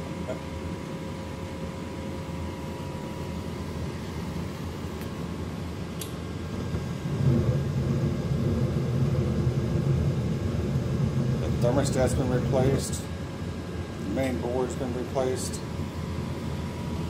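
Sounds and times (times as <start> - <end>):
faint whine: 0.0 - 17.0
furnace burners rumbling: 0.0 - 17.0
furnace draft inducer whirring: 0.0 - 17.0.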